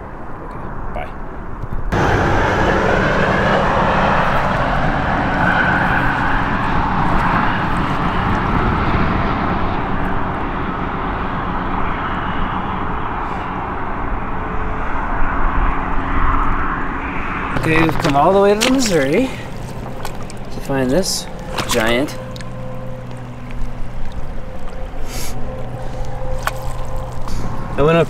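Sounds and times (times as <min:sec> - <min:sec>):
low traffic hum: 0:00.0 - 0:28.0
road traffic rushing: 0:01.1 - 0:28.0.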